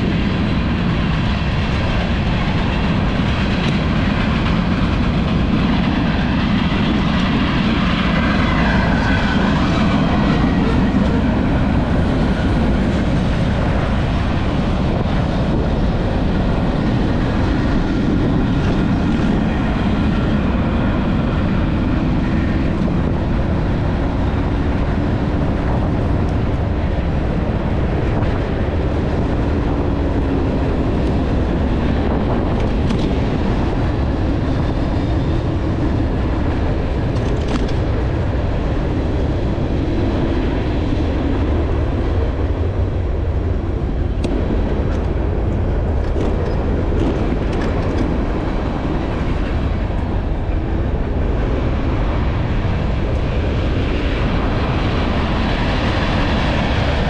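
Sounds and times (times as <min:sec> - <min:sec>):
train running: 0:00.0 - 0:57.0
wind and travel rumble: 0:00.0 - 0:57.0.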